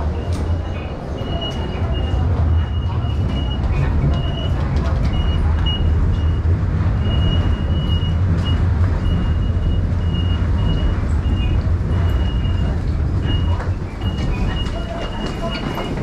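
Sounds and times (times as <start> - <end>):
crowd walking: 0.0 - 16.0
steady low rumble: 0.0 - 16.0.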